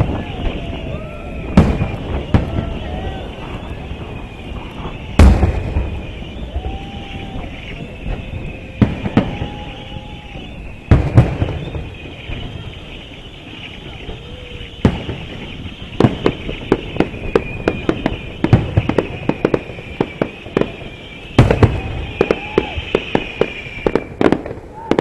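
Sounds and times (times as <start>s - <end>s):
firework shells booming: 0.0s - 25.0s
sharp firework cracks: 0.0s - 25.0s.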